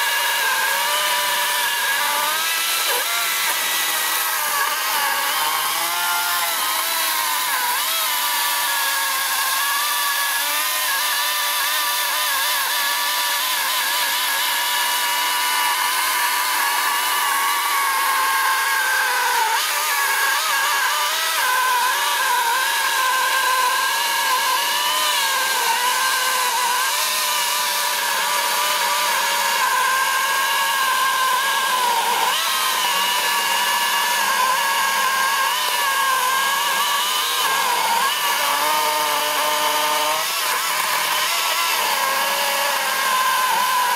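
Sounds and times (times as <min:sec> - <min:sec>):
electric chainsaw cutting wood: 0:00.0 - 0:43.9.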